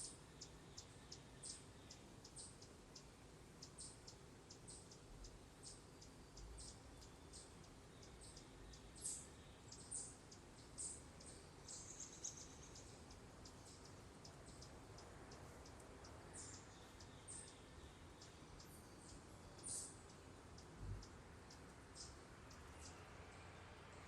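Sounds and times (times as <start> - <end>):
bird chip calls: 0.0 - 23.0.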